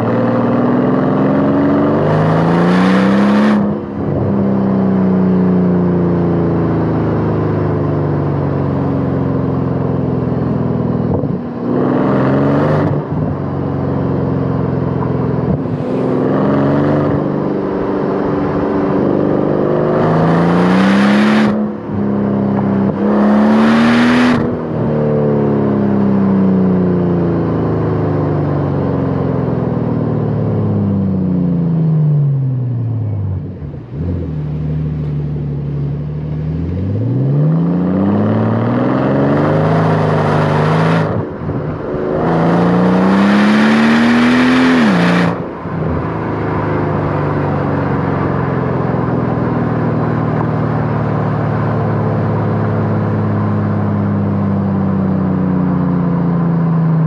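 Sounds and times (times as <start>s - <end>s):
car engine accelerating and cruising: 0.0s - 57.0s.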